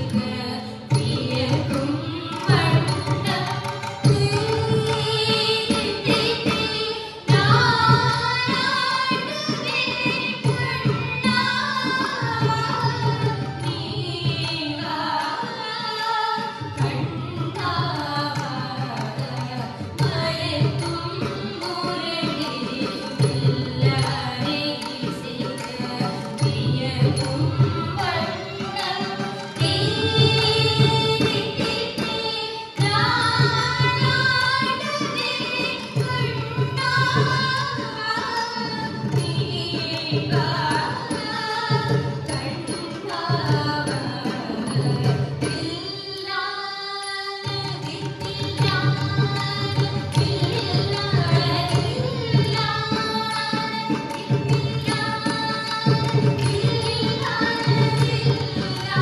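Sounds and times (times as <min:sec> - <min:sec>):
mridangam strokes: 0:00.0 - 0:59.0
violin accompaniment: 0:00.0 - 0:59.0.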